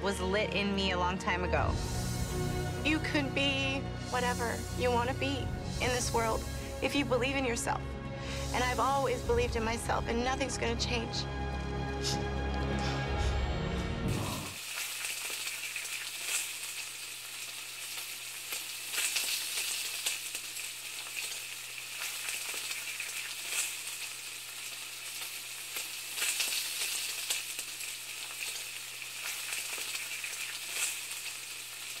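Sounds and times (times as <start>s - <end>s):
sizzling crackling hiss: 1.7s - 10.6s, 14.1s - 32.0s.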